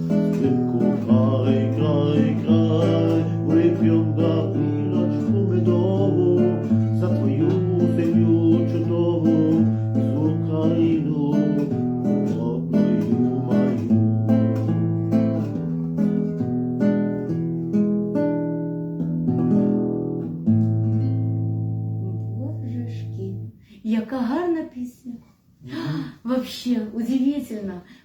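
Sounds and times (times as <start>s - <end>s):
acoustic guitar strumming: 0.0s - 23.6s.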